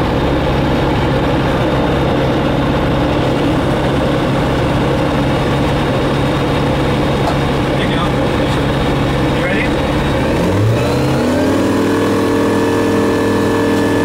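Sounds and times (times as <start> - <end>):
aircraft engine and propeller running: 0.0 - 14.0.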